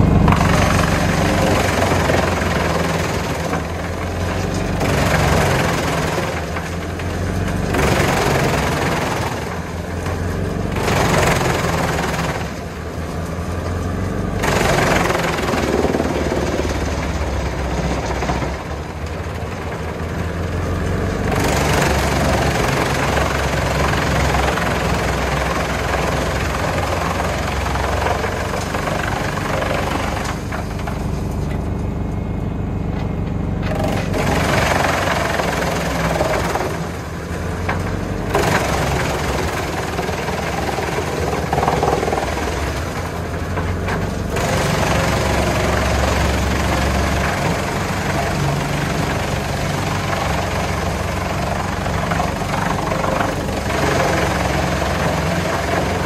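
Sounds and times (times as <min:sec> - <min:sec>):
tractor engine under load: 0:00.0 - 0:56.0
wood chipper chipping logs: 0:00.0 - 0:56.0.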